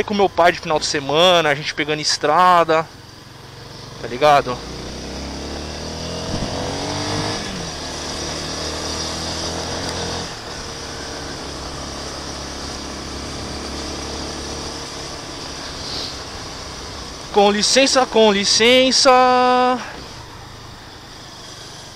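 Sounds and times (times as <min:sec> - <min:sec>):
motorcycle engine accelerating: 0:02.4 - 0:21.9.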